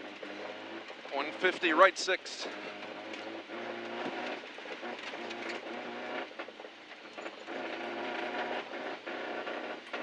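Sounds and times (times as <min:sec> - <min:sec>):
gravel rattling under car: 0:00.0 - 0:10.0
rally car engine from inside: 0:00.0 - 0:10.0.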